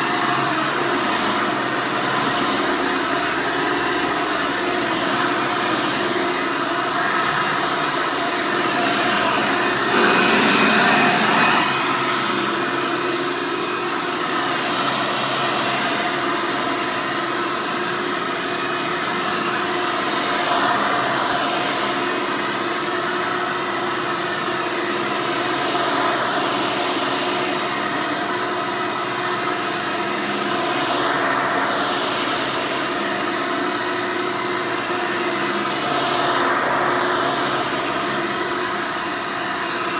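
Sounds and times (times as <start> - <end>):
upright vacuum motor humming: 0.0 - 39.9.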